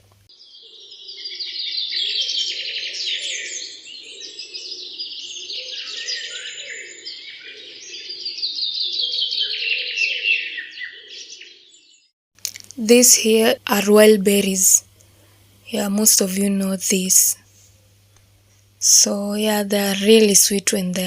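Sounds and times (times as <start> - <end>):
small birds chirping: 0.4 - 21.0.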